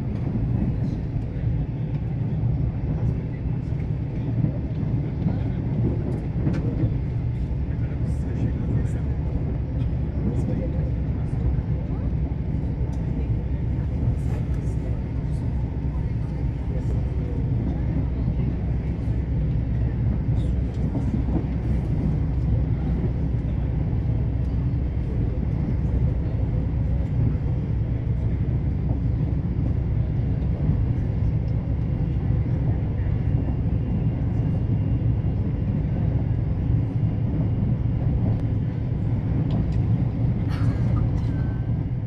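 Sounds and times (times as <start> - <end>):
train rumbling on track: 0.0 - 42.0.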